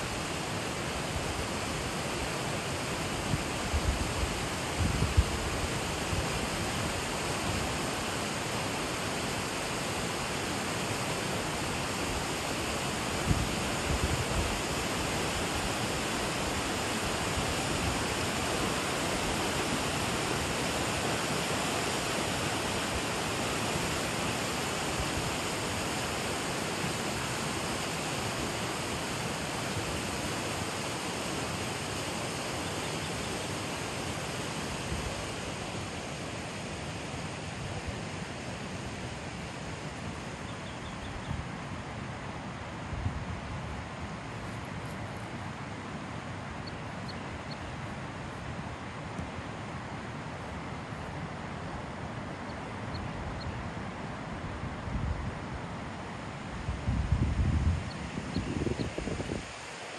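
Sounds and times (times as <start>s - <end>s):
river rushing over rocks: 0.0s - 40.5s, 41.4s - 58.3s, 58.9s - 59.9s.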